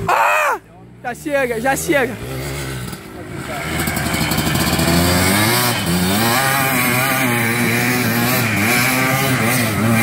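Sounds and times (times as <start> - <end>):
quad engine revving: 0.8 - 10.0.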